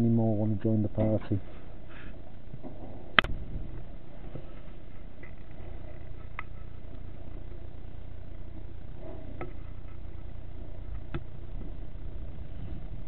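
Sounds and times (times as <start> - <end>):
low rumble: 1.7 - 13.0.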